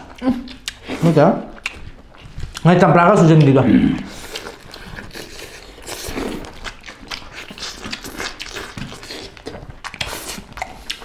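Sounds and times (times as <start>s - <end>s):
chewing and lip-smacking: 0.0s - 11.0s.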